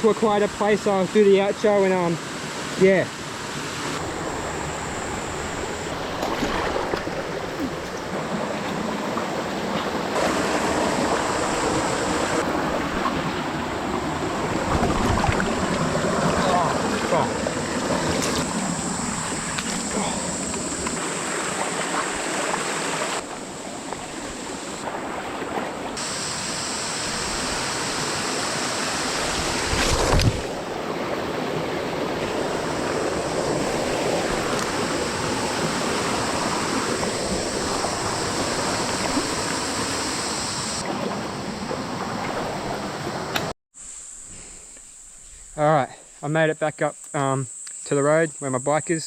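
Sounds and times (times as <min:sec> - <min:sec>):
water rushing over rocks: 0:00.1 - 0:43.5.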